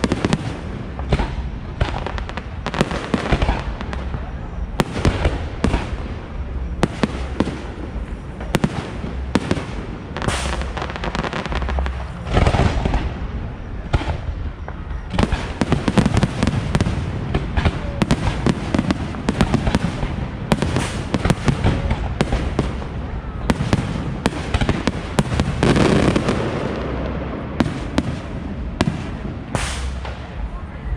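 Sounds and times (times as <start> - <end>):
fireworks bangs and crackling: 0.0 - 30.9.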